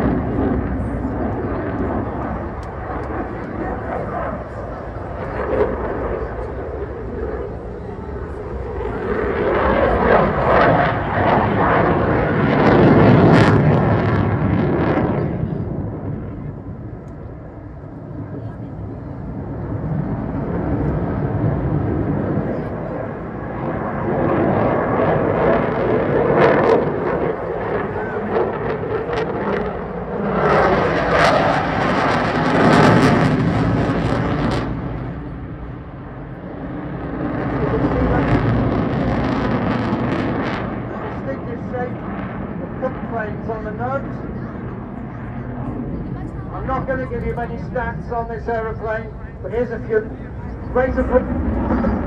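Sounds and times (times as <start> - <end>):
jet passing overhead: 0.0 - 52.0.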